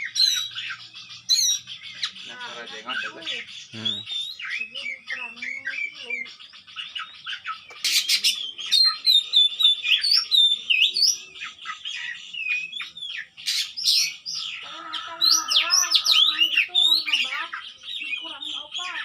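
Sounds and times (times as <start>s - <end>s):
bird singing: 0.0s - 19.0s.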